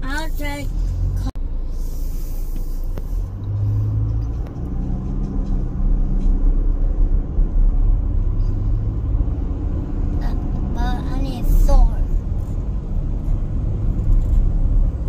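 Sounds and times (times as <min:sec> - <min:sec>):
car road noise rumble: 0:00.0 - 0:15.0
low engine hum: 0:00.0 - 0:15.0.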